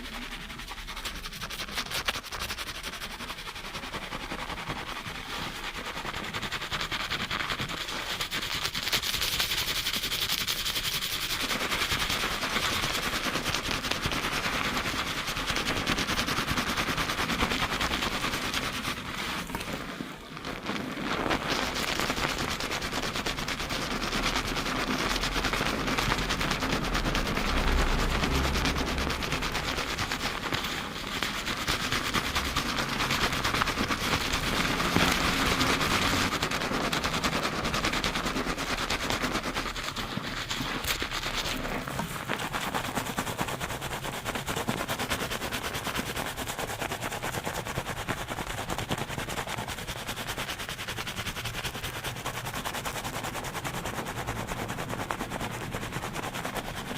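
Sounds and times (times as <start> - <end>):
fingers scrubbing lathered scalp: 0.0 - 56.9.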